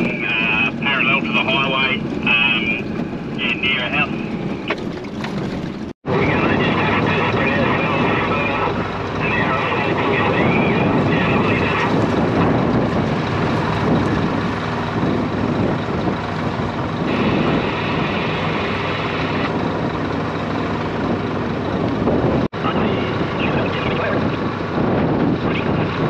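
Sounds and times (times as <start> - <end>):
vehicle engine running: 0.0 - 26.0
wind on microphone: 0.0 - 26.0.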